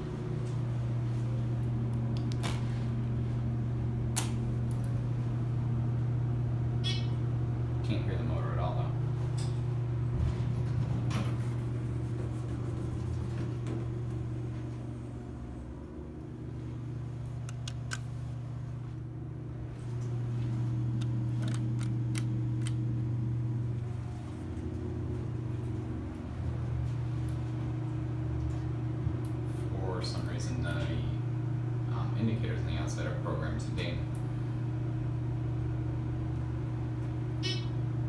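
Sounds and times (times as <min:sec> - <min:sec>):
elevator machine hum: 0:00.0 - 0:38.0.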